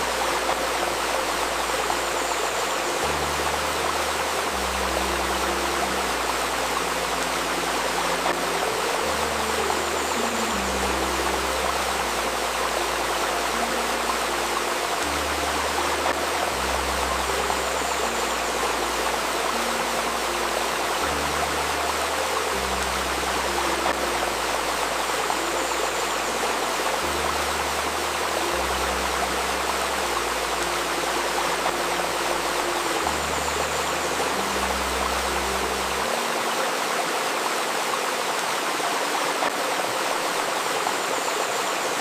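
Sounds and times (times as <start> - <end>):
soft sustained low tones: 0.0 - 36.7
river stream babbling: 0.0 - 42.0.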